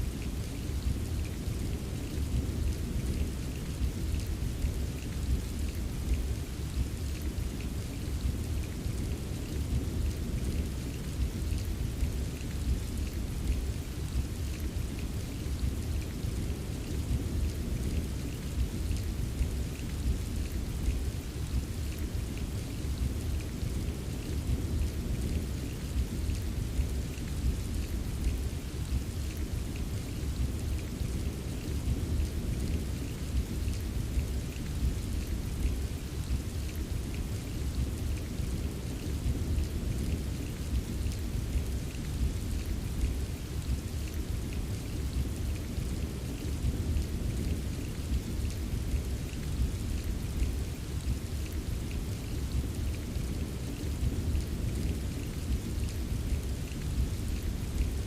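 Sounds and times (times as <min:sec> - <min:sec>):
hiss of rainfall: 0:00.0 - 0:58.0
patter of raindrops: 0:00.0 - 0:58.0.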